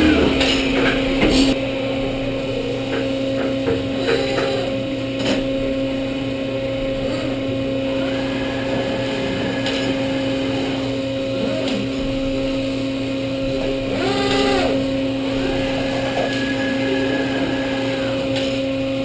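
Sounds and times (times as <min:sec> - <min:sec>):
drill machine humming: 0:00.0 - 0:19.0.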